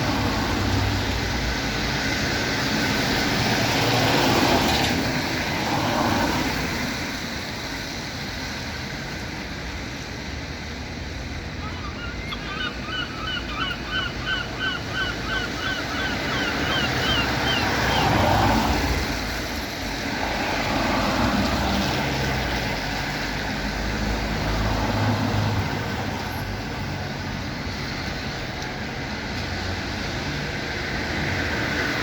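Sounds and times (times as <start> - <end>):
passing traffic rumble: 0.0 - 32.0.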